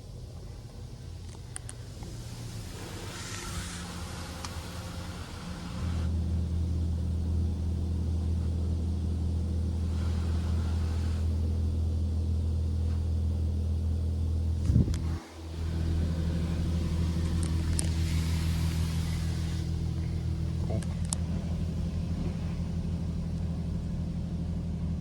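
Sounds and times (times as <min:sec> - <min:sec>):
car wash mechanical hum: 0:00.0 - 0:25.0.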